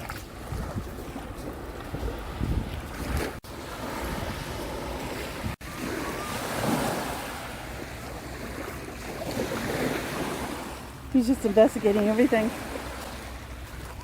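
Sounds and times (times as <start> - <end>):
wind buffeting microphone: 0.0 - 12.1
lake waves washing onto shore: 0.0 - 14.0.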